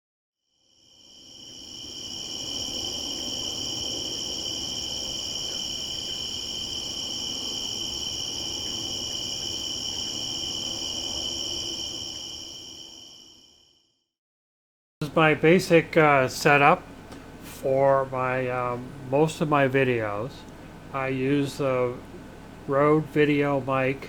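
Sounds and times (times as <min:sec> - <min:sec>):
crickets trilling: 0:00.6 - 0:13.8, 0:15.0 - 0:24.0.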